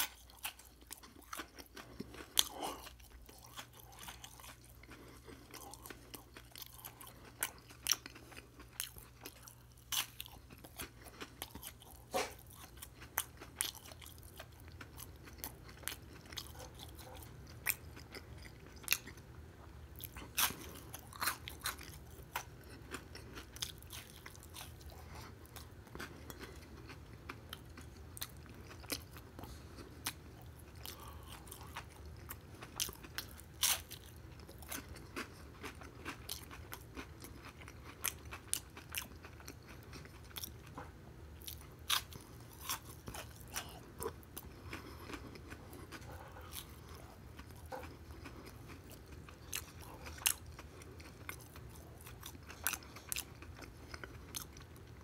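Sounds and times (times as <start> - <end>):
chewing crispy fried food: 0.0 - 55.0
steady low hum: 0.0 - 55.0.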